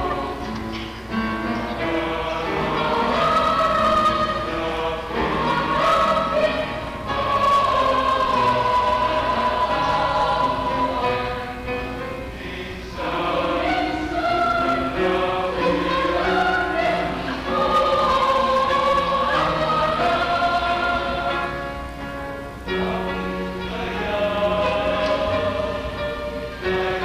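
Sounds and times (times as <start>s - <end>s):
choir singing in harmony: 0.0s - 27.0s.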